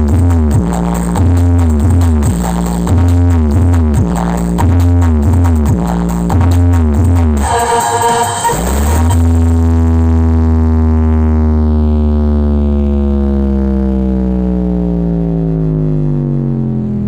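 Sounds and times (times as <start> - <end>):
deep synthesized bass tone: 0.0 - 17.0.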